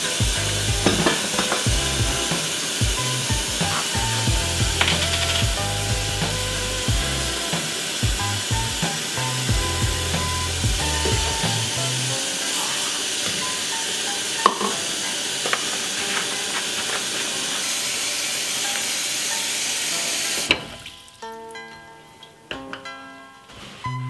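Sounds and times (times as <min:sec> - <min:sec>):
faucet running into steel sink: 0:00.0 - 0:21.1.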